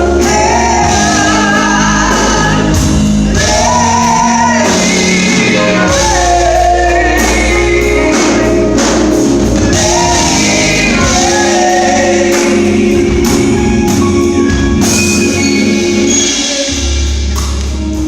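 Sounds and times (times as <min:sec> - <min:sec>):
gospel voices singing: 0:00.0 - 0:17.9
band playing: 0:00.0 - 0:18.0
percussion strikes: 0:00.0 - 0:18.0.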